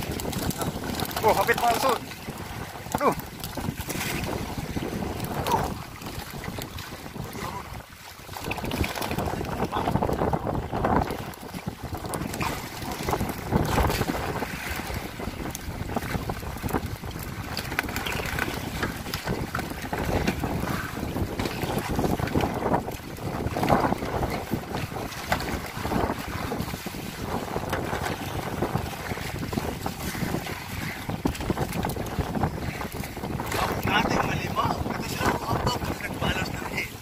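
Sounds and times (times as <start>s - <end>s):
sea: 0.0s - 37.0s
wind buffeting microphone: 0.0s - 37.0s.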